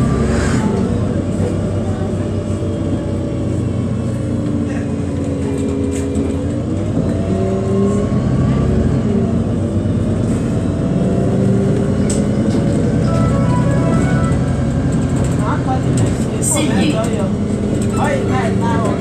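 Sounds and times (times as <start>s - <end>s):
bus engine running: 0.0s - 19.0s
road rumble: 0.0s - 19.0s.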